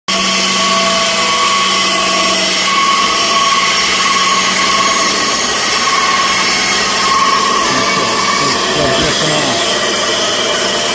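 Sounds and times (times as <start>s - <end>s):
bandsaw motor hum and whine: 0.1s - 10.9s.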